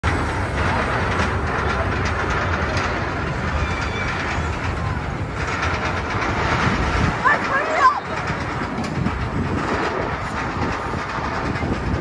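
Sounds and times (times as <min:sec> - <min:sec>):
amusement rides rumbling: 0:00.0 - 0:12.0.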